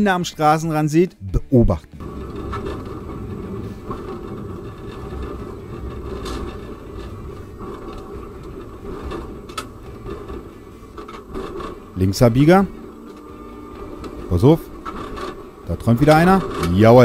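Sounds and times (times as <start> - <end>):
tram rumbling on rails: 1.7 - 17.0.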